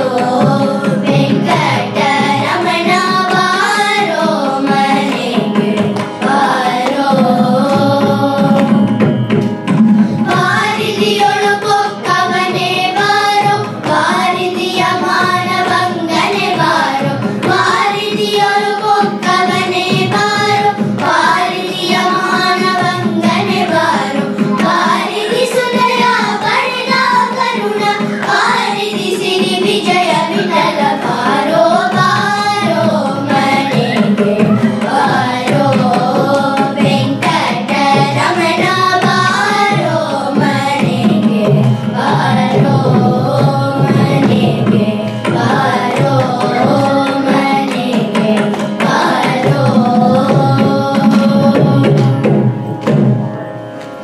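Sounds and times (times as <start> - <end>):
children singing devotional song: 0.0 - 53.1.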